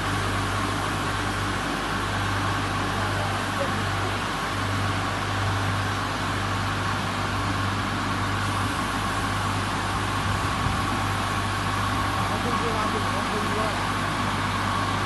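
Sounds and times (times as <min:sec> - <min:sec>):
car wash machine hum and hiss: 0:00.0 - 0:15.0.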